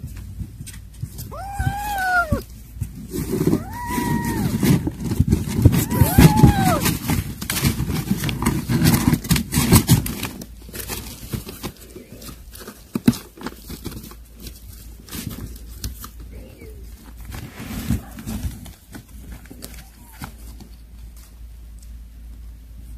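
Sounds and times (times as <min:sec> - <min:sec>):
paws rustling newspaper: 0:00.0 - 0:22.3
kittens crunching dry kibble: 0:00.0 - 0:22.4.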